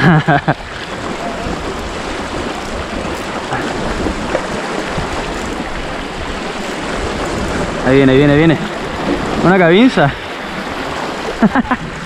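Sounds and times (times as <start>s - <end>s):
sea water washing over rocks: 0.0s - 12.0s.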